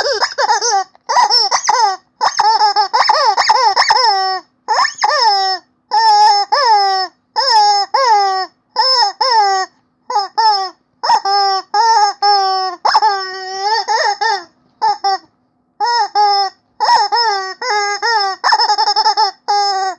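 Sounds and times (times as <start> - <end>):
rubber chicken toy squeaking: 0.0 - 19.9.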